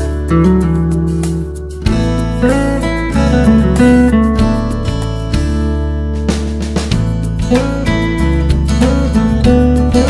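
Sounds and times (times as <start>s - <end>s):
acoustic guitar strumming: 0.0s - 10.0s
steady bass: 0.0s - 10.0s.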